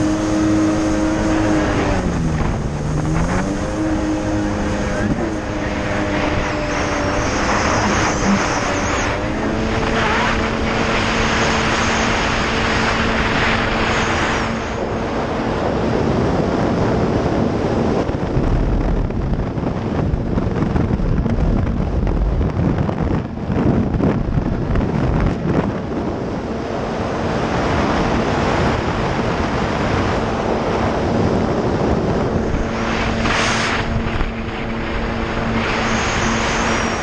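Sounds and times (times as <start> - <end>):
rushing water: 0.0 - 21.4, 26.5 - 37.0
watercraft engine running: 0.0 - 37.0
wind buffeting microphone: 0.0 - 37.0.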